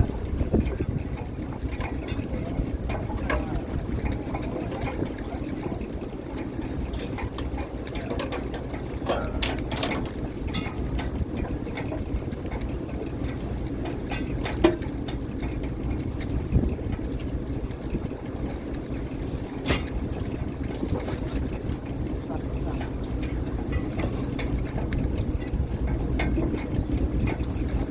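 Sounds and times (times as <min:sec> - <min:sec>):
boat engine running: 0:00.0 - 0:27.9
clatters: 0:00.0 - 0:27.9
water noise: 0:00.0 - 0:27.9.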